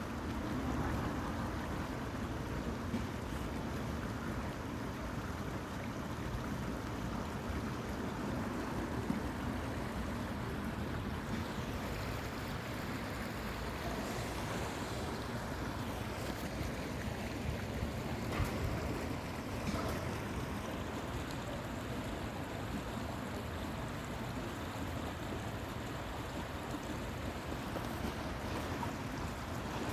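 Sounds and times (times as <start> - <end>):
rushing outdoor background noise: 0.0 - 29.9.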